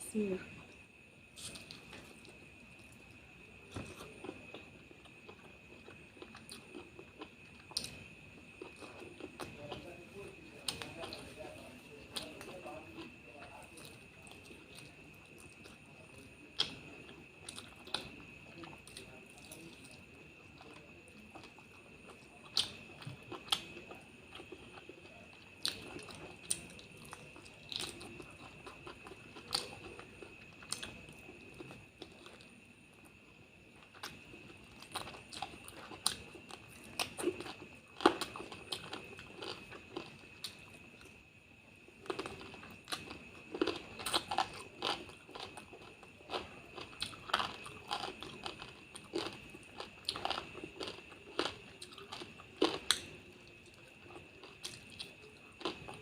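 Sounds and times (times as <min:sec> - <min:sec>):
person chewing with wet clicks: 0:00.6 - 0:56.0.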